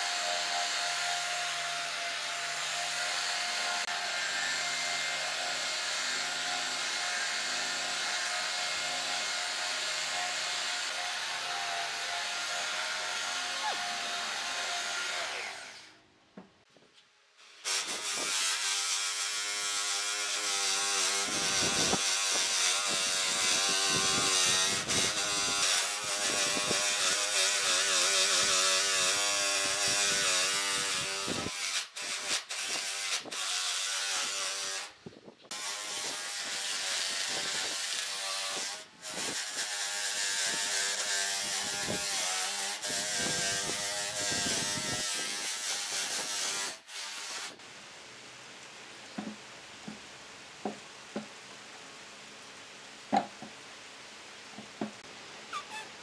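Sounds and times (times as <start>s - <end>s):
belt sander on wood: 0.0s - 15.9s, 17.4s - 47.6s
electric drill with sanding disc: 0.0s - 16.0s, 17.4s - 47.6s.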